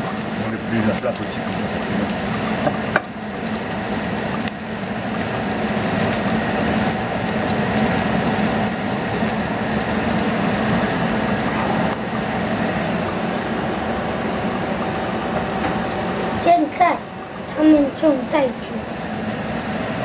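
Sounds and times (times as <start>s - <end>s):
bacon sizzling in a frying pan: 0.0s - 20.0s
steady low hum: 0.0s - 20.0s.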